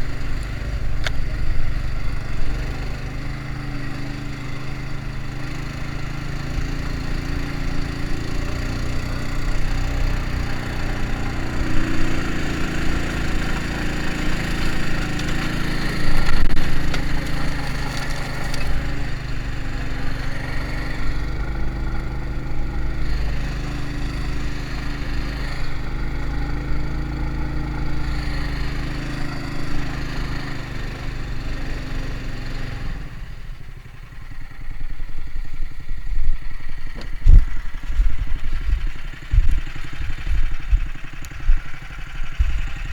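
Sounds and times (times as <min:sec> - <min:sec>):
small vehicle engine running: 0:00.0 - 0:42.9.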